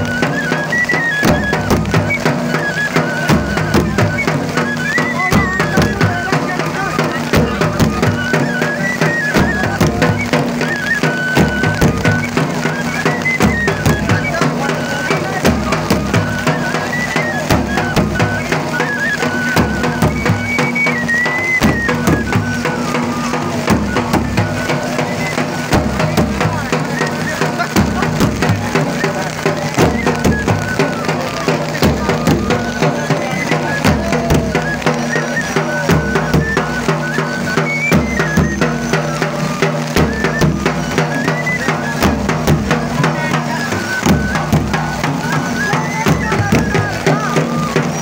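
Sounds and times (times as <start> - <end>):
high wind instrument melody: 0.0 - 48.0
steady drum beat: 0.0 - 48.0.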